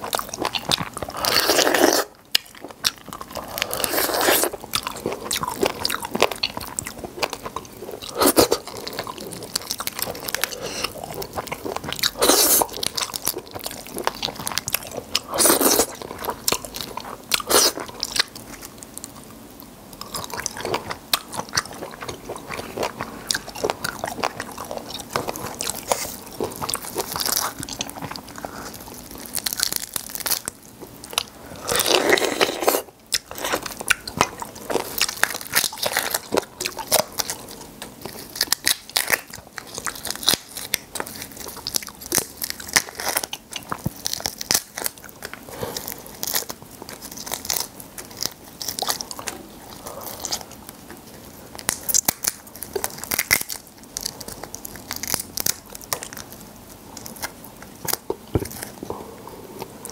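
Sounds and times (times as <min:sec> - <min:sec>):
chewing and crunching shrimp: 0:00.0 - 0:59.9.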